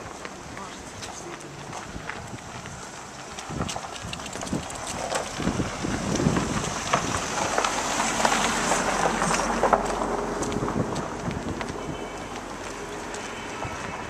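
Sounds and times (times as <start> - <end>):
footsteps on gravel: 0.0 - 14.0
wind buffeting microphone: 0.0 - 14.0.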